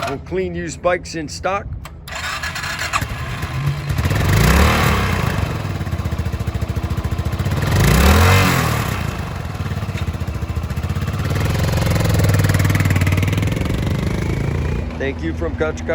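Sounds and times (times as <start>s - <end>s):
motorcycle engine idling and revving: 0.0s - 0.3s, 1.8s - 15.9s.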